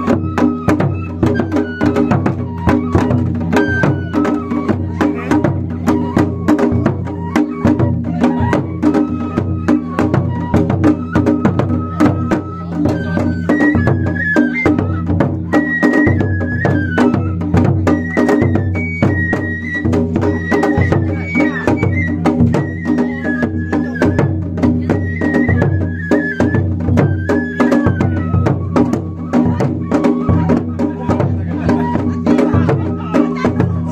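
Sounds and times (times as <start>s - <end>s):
high flute melody: 0.0s - 33.9s
taiko drum beaten with sticks: 0.0s - 33.9s.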